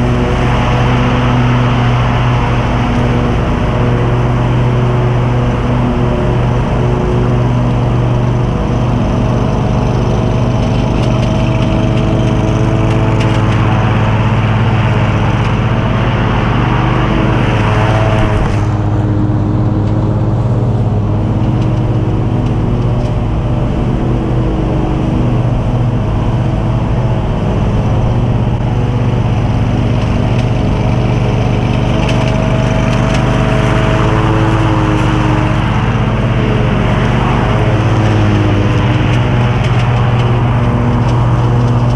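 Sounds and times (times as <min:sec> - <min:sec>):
mower engine drone: 0:00.0 - 0:41.9.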